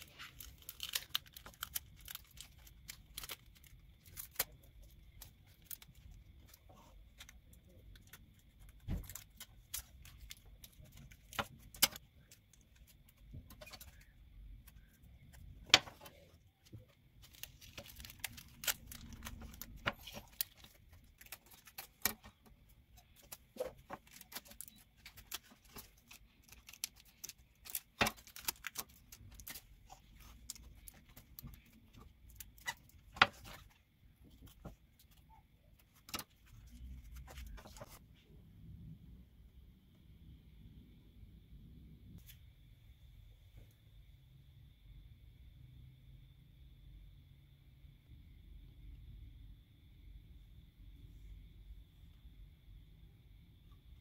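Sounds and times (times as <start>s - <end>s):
faint high hum: 0.0s - 54.0s.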